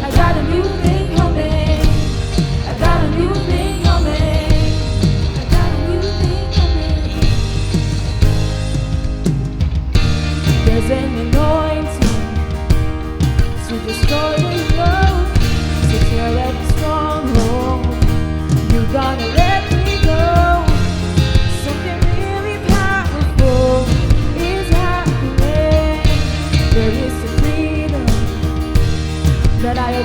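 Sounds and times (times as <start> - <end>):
person singing: 0.0 - 8.0, 10.4 - 30.0
drums bass and guitar: 0.0 - 30.0.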